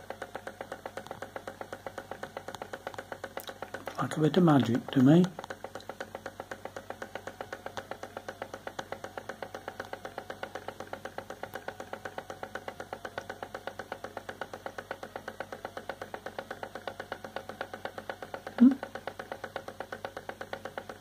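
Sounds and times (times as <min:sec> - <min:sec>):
small engine rapid ticking: 0:00.0 - 0:21.0.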